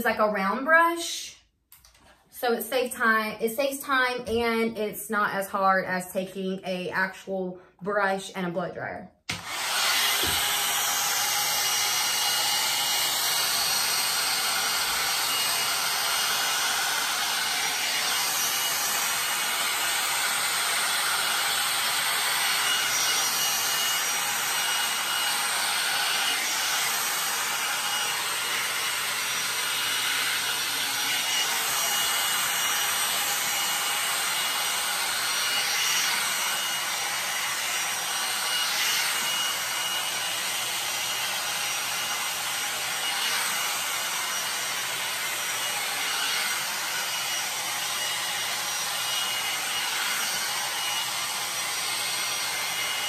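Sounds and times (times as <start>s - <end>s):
hot-air brush blowing: 9.3s - 53.0s.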